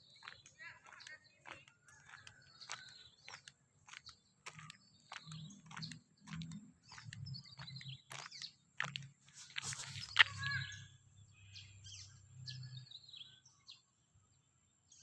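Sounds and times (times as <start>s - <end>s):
bird chirps: 0.0s - 13.9s.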